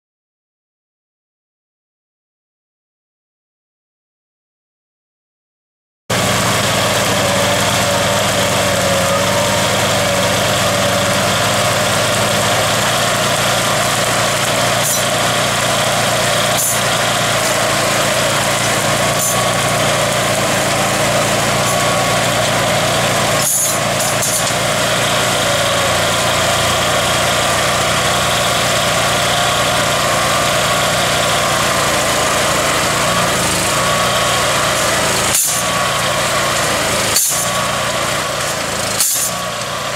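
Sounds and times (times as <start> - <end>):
small gasoline engine running: 6.1 - 39.9.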